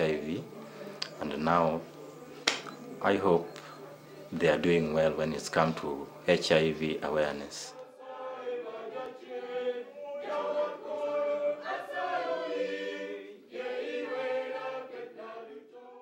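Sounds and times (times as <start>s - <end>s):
choir singing held notes: 0.0s - 16.0s.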